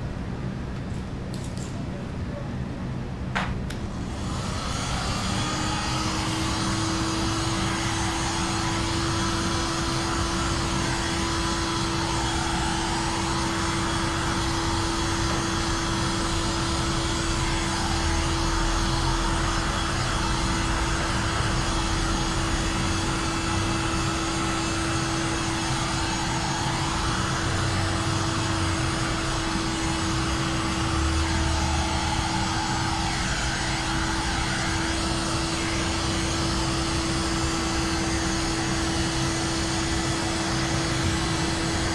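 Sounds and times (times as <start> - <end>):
fan motor hum: 0.0 - 41.9
heat gun blowing air: 3.7 - 41.9.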